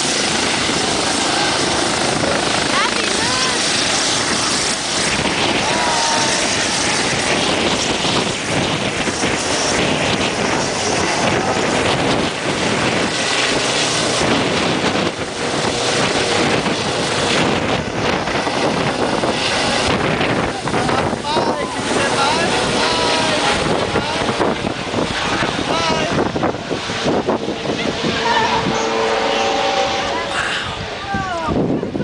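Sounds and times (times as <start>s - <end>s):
loud steady rushing noise: 0.0s - 32.0s
wind buffeting microphone: 0.0s - 32.0s.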